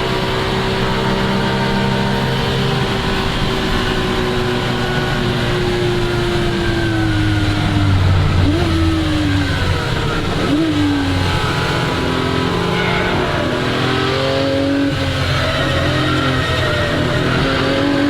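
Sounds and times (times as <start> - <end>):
sports car engine revving: 0.0 - 18.0.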